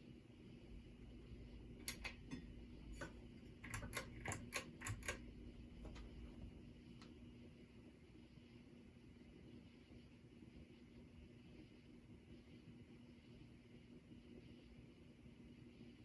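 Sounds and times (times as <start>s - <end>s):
ceiling fan motor hum: 0.0s - 16.0s.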